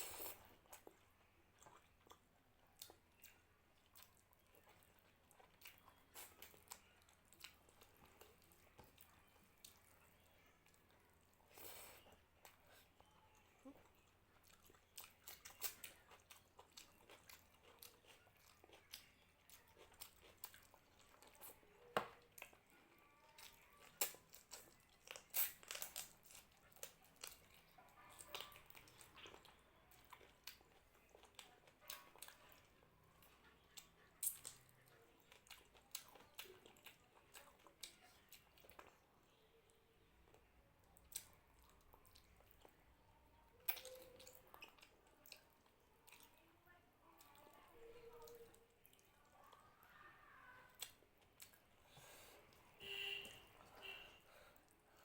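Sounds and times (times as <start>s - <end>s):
chewing with wet mouth clicks: 0.1s - 39.0s, 40.2s - 46.4s, 47.2s - 49.8s, 50.7s - 55.0s.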